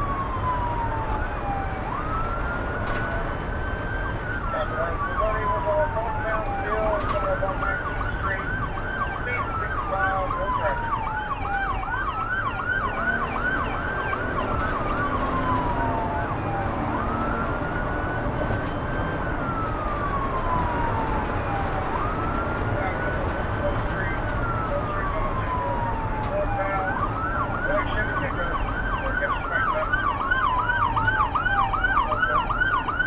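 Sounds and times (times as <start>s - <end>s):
fast siren yelp: 0.0s - 33.0s
police siren wail: 0.0s - 33.0s
road noise: 0.0s - 33.0s.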